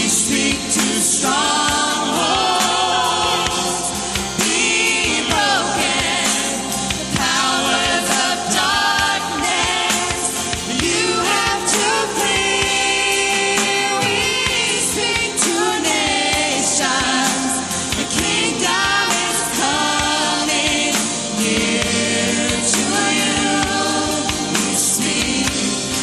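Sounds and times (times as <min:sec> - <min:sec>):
band playing worship music: 0:00.0 - 0:26.0
voices holding long notes: 0:00.0 - 0:26.0.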